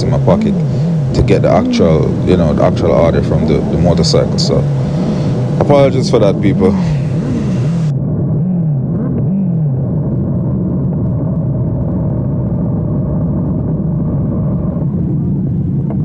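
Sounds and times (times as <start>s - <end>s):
muffled motorcycle engine: 0.0s - 16.0s
wind rumble: 0.0s - 16.0s.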